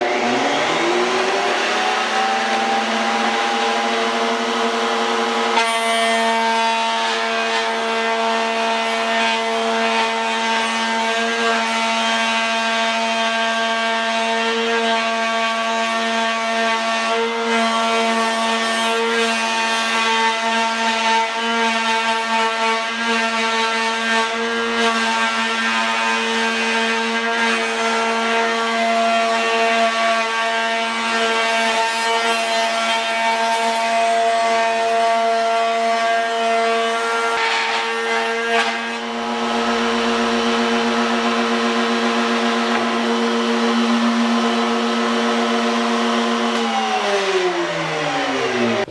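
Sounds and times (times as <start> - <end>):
power tool motor whining: 0.0 - 48.9.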